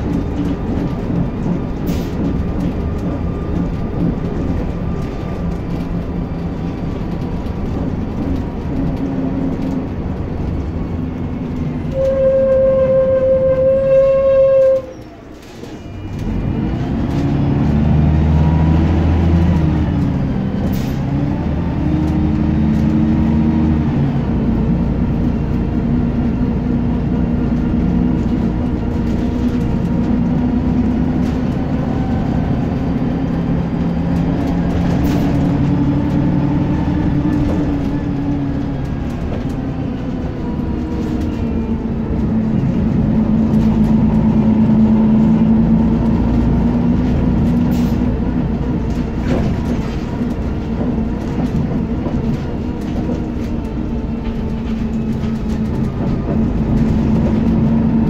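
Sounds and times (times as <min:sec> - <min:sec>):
bus engine pulling away: 0:00.0 - 0:58.0.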